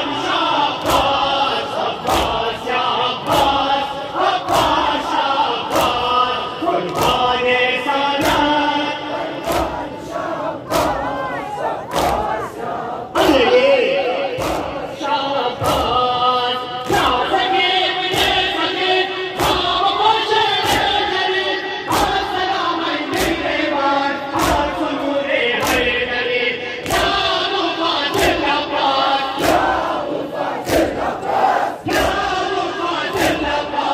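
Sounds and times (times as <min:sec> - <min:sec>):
crowd chanting in chorus: 0:00.0 - 0:33.9.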